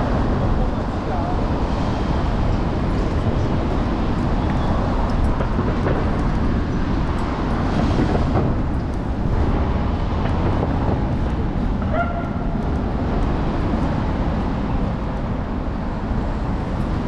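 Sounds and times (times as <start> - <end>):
city street traffic: 0.0 - 17.0
road noise: 0.0 - 17.0
wind rumble: 0.0 - 17.0.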